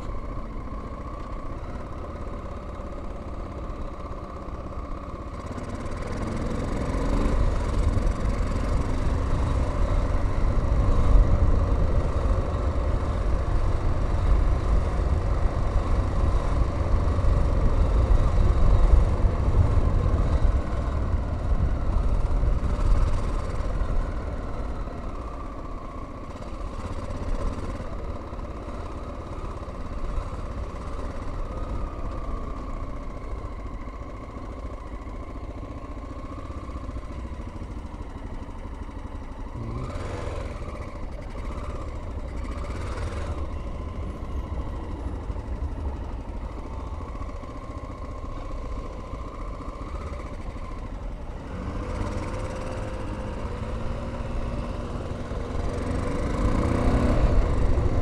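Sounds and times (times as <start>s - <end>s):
motorcycle engine pulling away: 4.4s - 58.0s.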